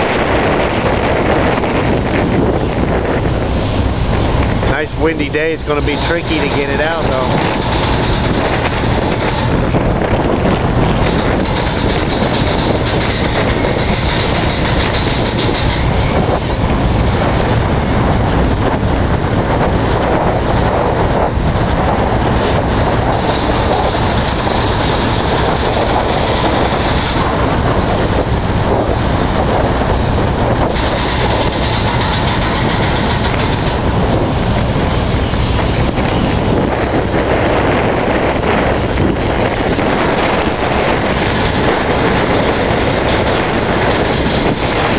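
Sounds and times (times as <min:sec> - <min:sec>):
strong wind on microphone: 0:00.0 - 0:44.9.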